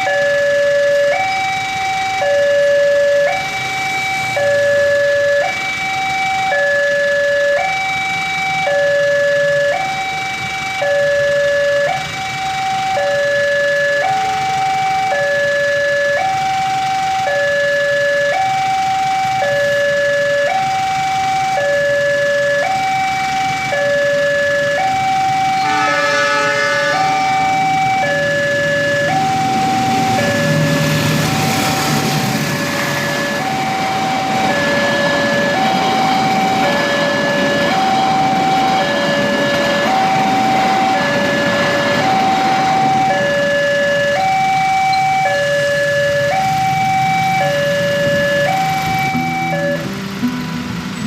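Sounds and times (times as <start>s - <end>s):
level crossing alarm alternating tones: 0.0s - 50.2s.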